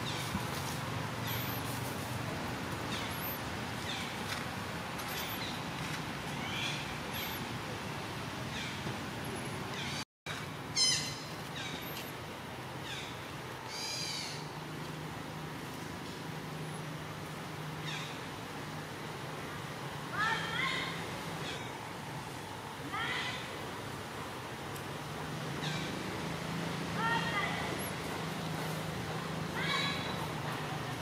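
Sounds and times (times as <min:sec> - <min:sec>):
steady forest hum: 0:00.0 - 0:31.0.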